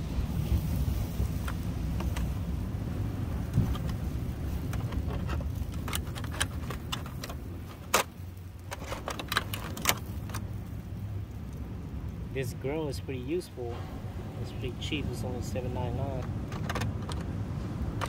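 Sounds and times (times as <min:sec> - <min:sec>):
grill crackling: 0:00.0 - 0:18.0.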